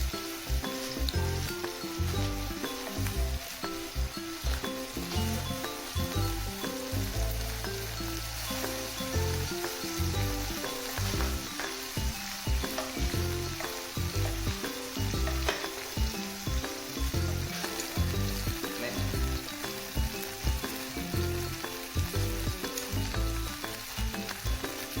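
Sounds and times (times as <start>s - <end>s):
background music with bass line: 0.0s - 25.0s
food sizzling: 0.0s - 25.0s.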